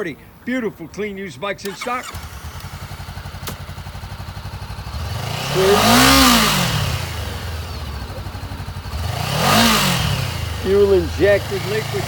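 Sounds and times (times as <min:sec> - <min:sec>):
motorcycle engine idling and revving: 0:01.7 - 0:12.0.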